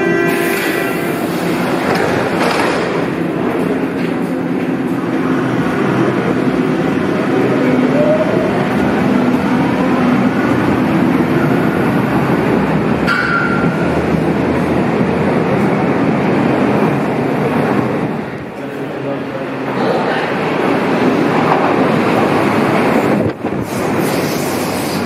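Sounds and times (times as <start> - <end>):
train motors and wheels running: 0.0 - 25.0.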